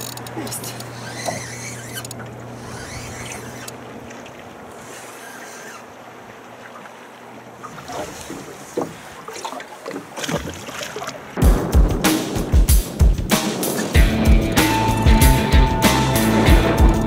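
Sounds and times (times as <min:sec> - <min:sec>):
water around a boat: 0:00.0 - 0:14.0
wind: 0:00.0 - 0:14.0.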